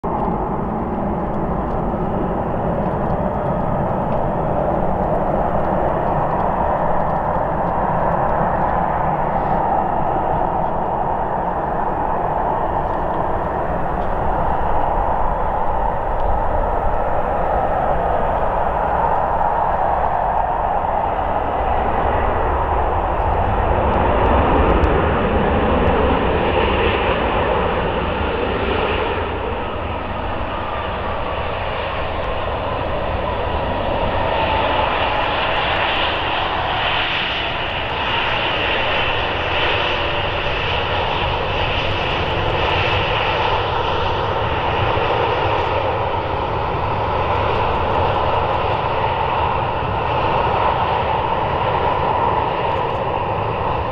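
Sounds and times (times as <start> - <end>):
falling engine whine: 0.0 - 53.9
jet engines running: 0.0 - 53.9.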